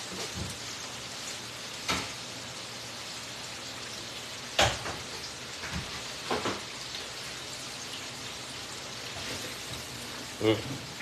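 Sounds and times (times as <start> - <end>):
oil sizzling in a deep fryer: 0.0 - 11.0.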